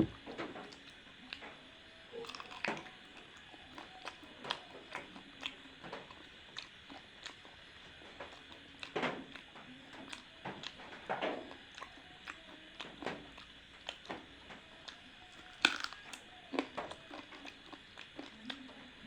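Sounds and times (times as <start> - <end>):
chewing with wet crunches: 2.1 - 19.0.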